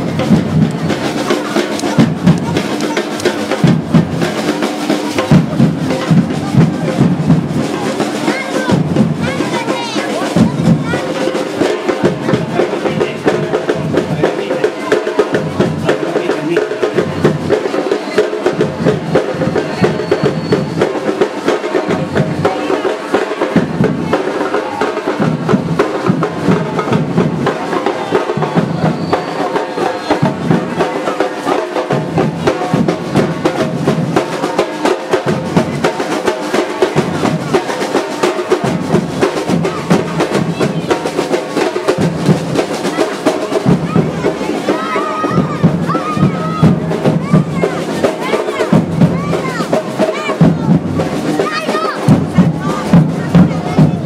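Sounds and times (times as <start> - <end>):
drum troupe playing: 0.0 - 54.0.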